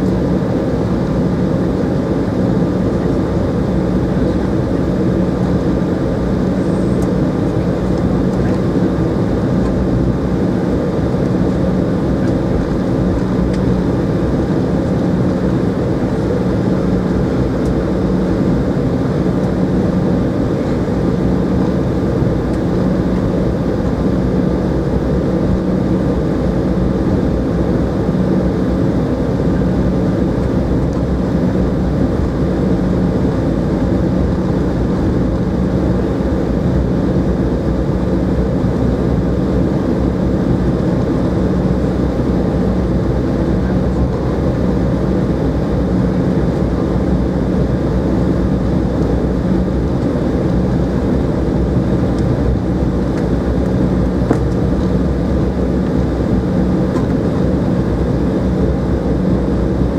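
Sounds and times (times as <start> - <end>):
jet engine hum in cabin: 0.0 - 59.9.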